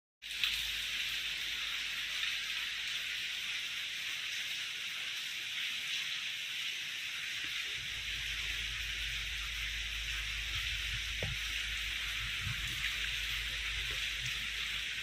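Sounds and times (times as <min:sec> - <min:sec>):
heavy rain falling: 0:00.2 - 0:15.0.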